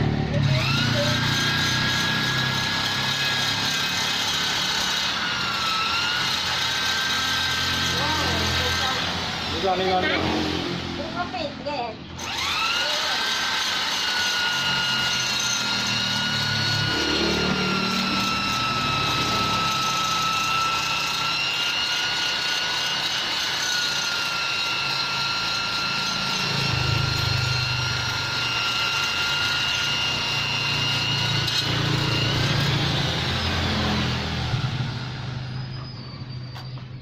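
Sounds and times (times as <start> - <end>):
rotary grinder whining on metal: 0.0 - 37.0.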